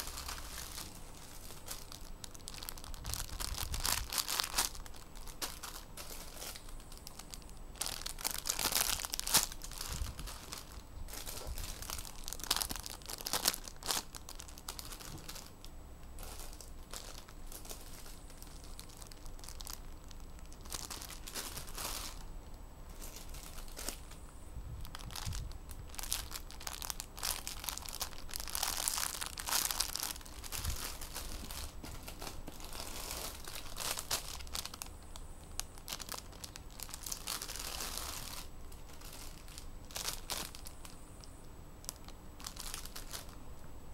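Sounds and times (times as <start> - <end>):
plastic bags crinkling: 0.0 - 22.3, 22.9 - 43.4.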